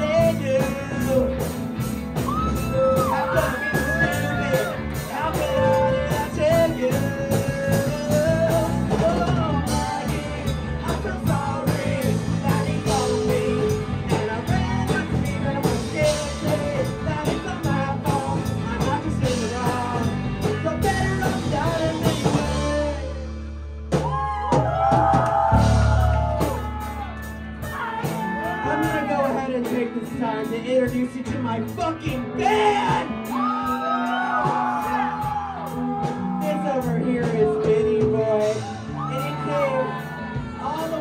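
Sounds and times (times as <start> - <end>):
person singing lead vocals: 0.0 - 23.6, 25.5 - 41.0
bass guitar: 0.0 - 41.0
drum kit: 0.0 - 41.0
electric guitar: 0.0 - 41.0.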